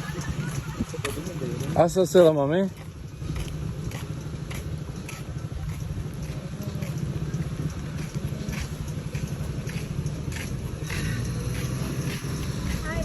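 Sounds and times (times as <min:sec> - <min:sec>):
footsteps walking: 0:00.0 - 0:13.0.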